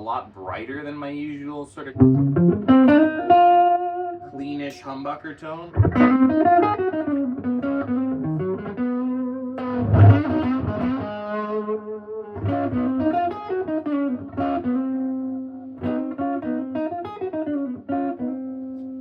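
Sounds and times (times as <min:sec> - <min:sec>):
electric guitar notes and chords: 0:01.9 - 0:04.8, 0:05.7 - 0:19.0.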